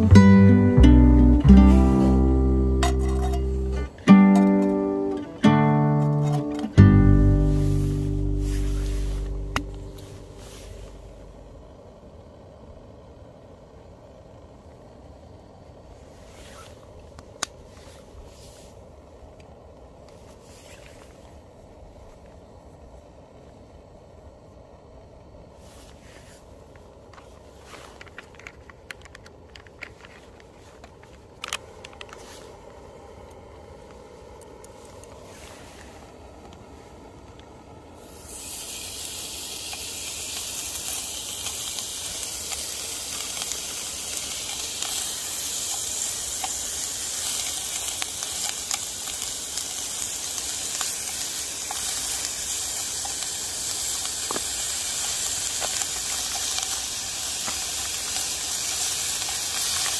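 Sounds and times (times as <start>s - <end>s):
gas stove burner hissing: 0.0s - 59.9s.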